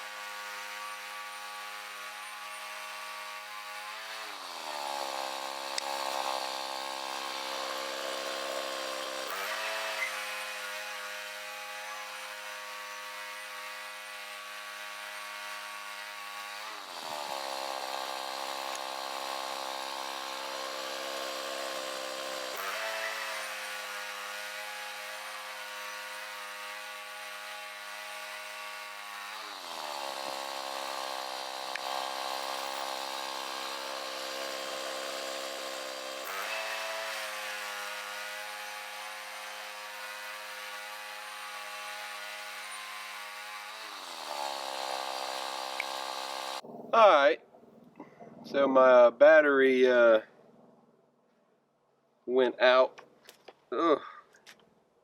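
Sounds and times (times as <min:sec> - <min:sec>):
chainsaw mill ripping a log: 0:00.0 - 0:46.8.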